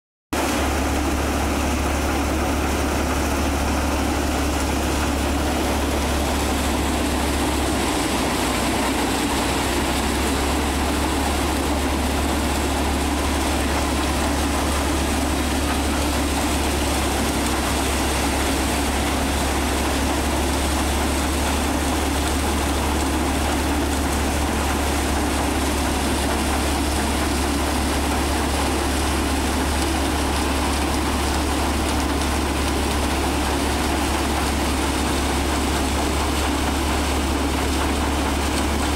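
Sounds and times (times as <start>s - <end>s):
thresher drum beating straw: 0.3s - 38.9s
tractor diesel engine running: 0.3s - 38.9s.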